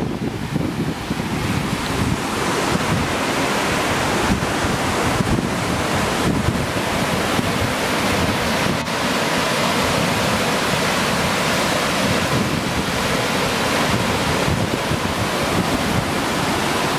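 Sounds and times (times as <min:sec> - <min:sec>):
water rushing over rocks: 0:00.0 - 0:16.9.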